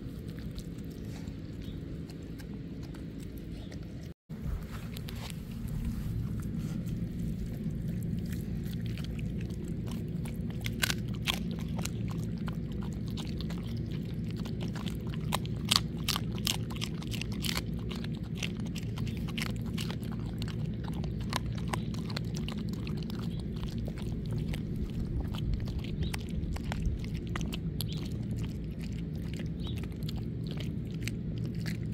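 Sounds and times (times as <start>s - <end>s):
dog chewing and crunching bone: 0.0s - 31.9s
steady low rumble: 0.0s - 31.9s.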